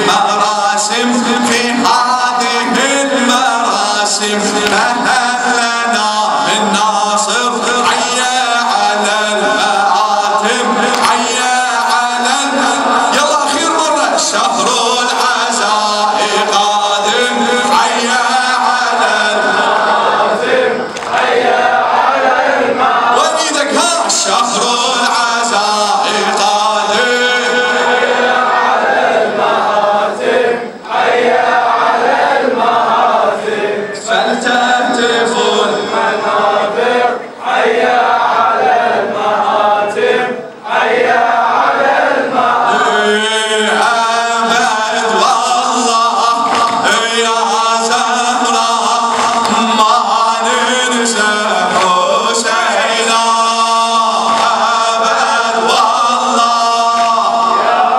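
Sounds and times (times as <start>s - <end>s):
man chanting into microphone: 0.0s - 20.9s, 22.7s - 57.9s.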